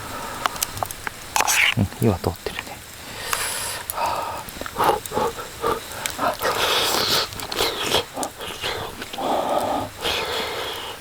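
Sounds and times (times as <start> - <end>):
person chewing food: 0.4 - 11.0.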